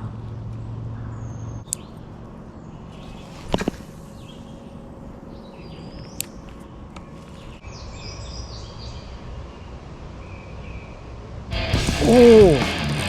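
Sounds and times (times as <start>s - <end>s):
songbirds chirping and singing: 0.0s - 11.2s.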